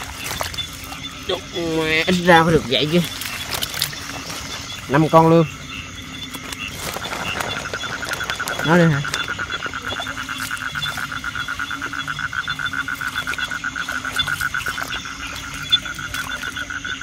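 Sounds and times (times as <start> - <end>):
frogs calling in pulsed trills: 0.0 - 17.0.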